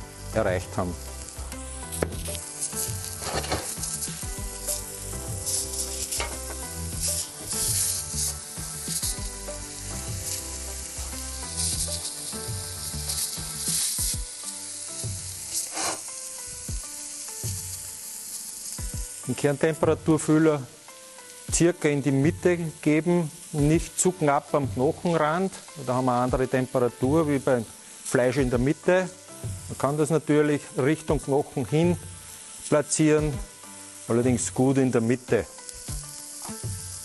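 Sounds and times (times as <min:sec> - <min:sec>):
steak sizzling on a grill plate: 0:00.0 - 0:37.0.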